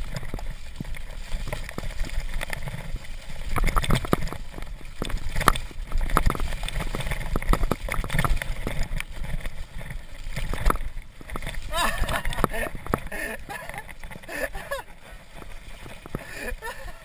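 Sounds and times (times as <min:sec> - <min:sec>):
bike rattling over bumps: 0:00.0 - 0:17.0
bike tyres splashing through slush: 0:00.0 - 0:17.0.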